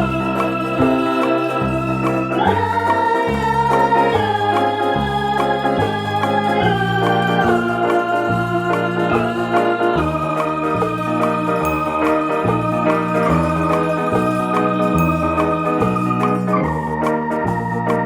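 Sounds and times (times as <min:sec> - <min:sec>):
instrumental music with held chords: 0:00.0 - 0:18.0.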